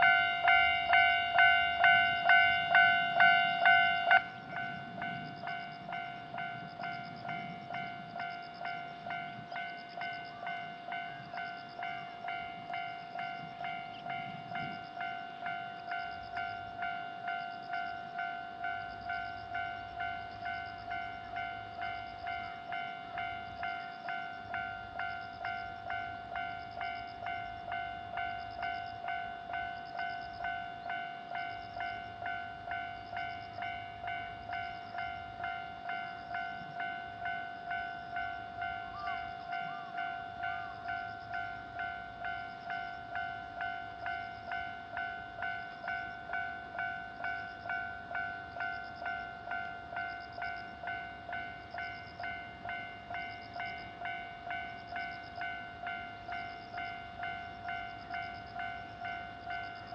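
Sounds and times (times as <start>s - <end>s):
railroad crossing warning bell: 0.0s - 59.9s.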